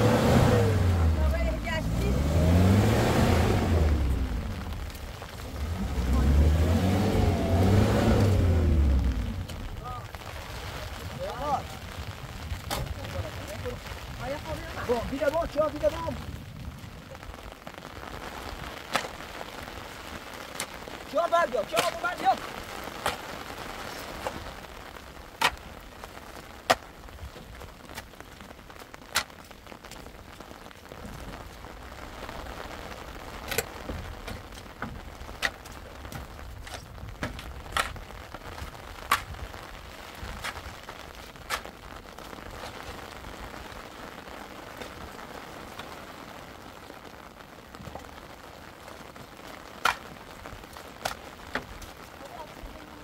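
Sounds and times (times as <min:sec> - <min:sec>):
large drips ticking: 0:00.0 - 0:53.0
rain pattering: 0:00.0 - 0:53.0.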